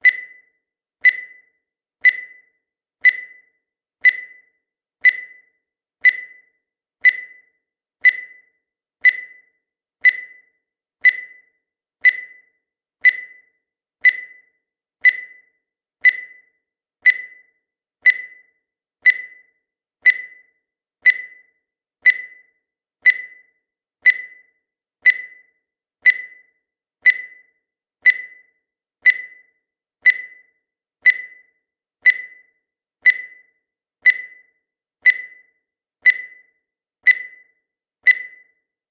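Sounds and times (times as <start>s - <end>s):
high-pitched timer beeps: 0.0s - 38.8s.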